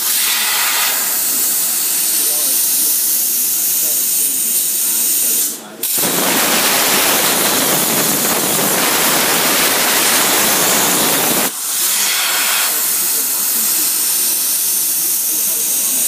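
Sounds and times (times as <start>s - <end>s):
air hissing from torch: 0.0s - 16.0s
plasma torch arc hissing: 0.0s - 16.0s.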